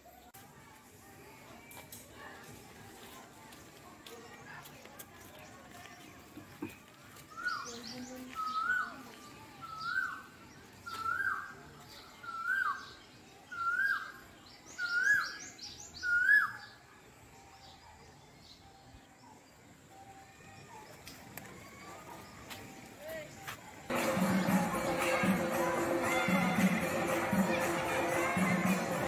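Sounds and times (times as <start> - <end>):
small birds chirping faintly: 0.0 - 29.0.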